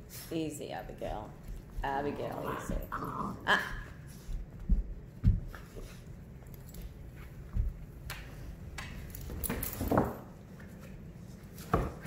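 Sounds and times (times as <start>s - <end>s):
dogs play-fighting scuffles: 0.0s - 12.0s.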